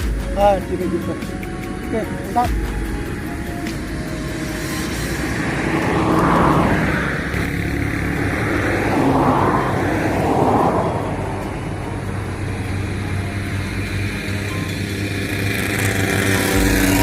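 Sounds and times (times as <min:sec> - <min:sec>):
steady engine hum: 0:00.0 - 0:17.0
vehicles passing by: 0:00.0 - 0:17.0.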